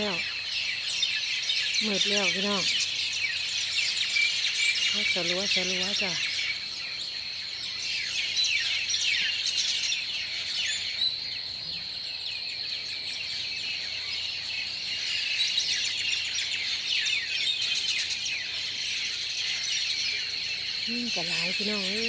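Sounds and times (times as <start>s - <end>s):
flock of birds chirping: 0.0s - 22.0s.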